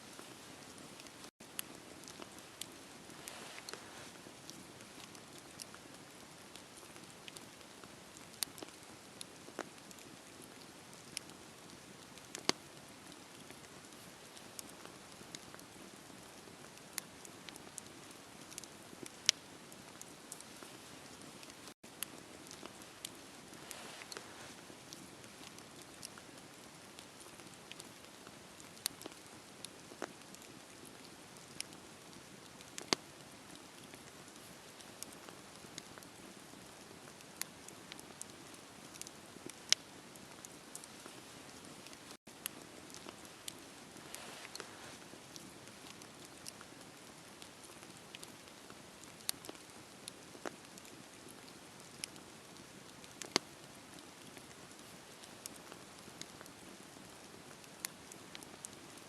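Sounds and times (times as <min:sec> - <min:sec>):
wood fire crackling: 0:00.0 - 0:59.0
fire snaps: 0:00.1 - 0:59.0.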